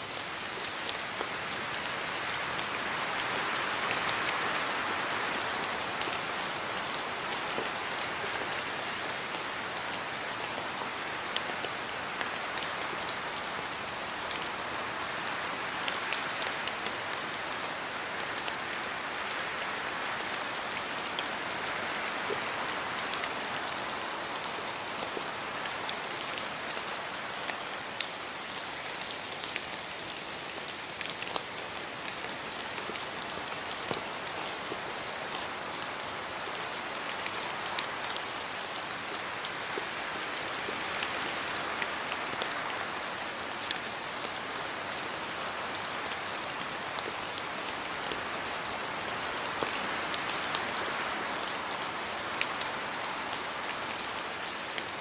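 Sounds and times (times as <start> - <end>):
rain pattering on hard surfaces: 0.0 - 55.0.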